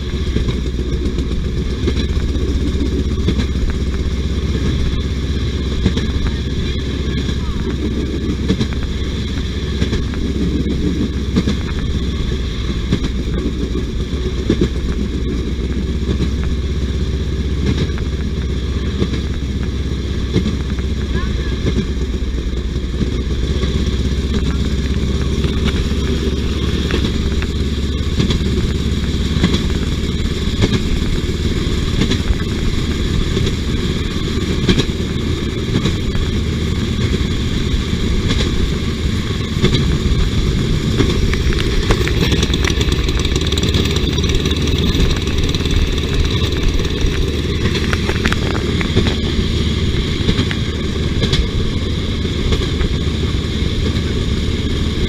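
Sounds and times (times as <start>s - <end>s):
rail car engine running: 0.0s - 55.0s
wheels clicking on rails: 0.0s - 55.0s.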